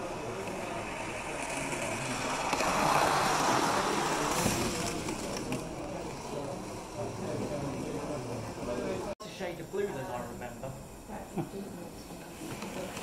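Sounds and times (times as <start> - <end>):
model train rolling and whirring: 0.0 - 9.2, 10.3 - 13.0.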